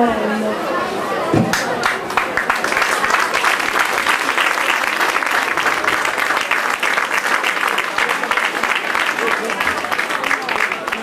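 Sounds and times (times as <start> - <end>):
audience applauding: 1.5 - 11.0.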